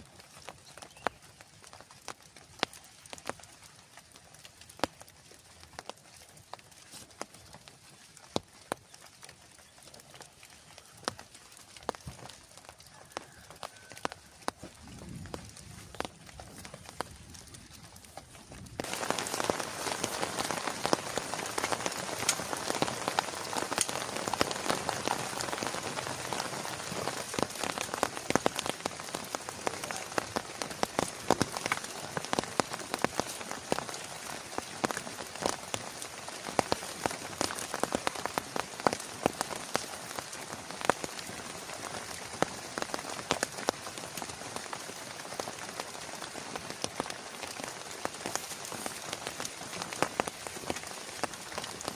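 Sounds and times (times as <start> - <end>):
heavy rain with drop impacts: 0.0 - 51.9.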